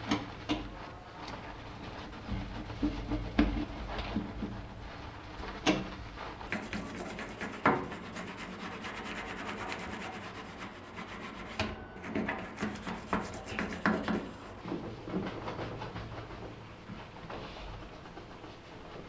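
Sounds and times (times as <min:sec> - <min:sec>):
hand scrubbing a hard surface: 0:00.0 - 0:19.0.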